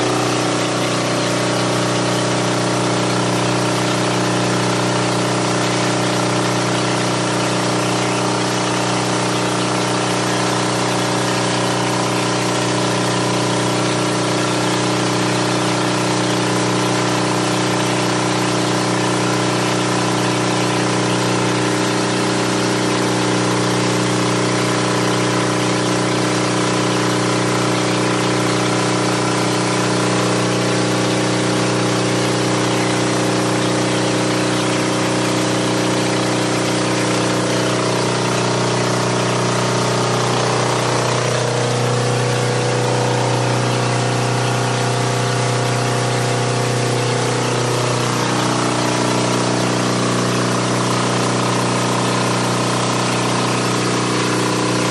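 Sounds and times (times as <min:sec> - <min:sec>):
pressure washer motor humming: 0:00.0 - 0:54.9.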